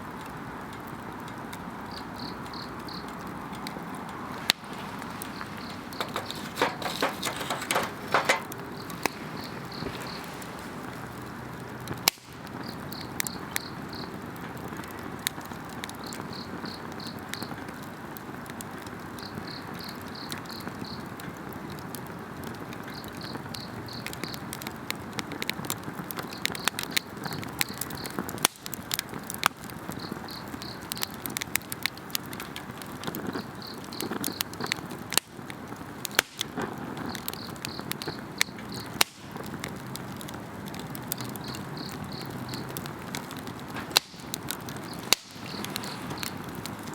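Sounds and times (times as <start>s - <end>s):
wood campfire crackling and popping: 0.0s - 46.9s.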